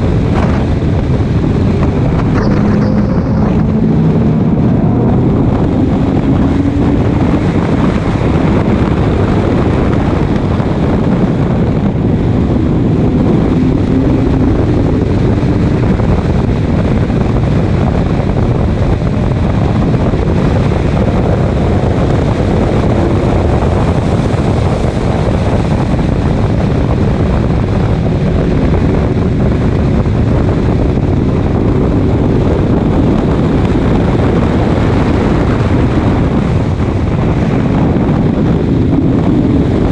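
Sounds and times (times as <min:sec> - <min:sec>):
race car engine and wind rush: 0:00.0 - 0:39.9.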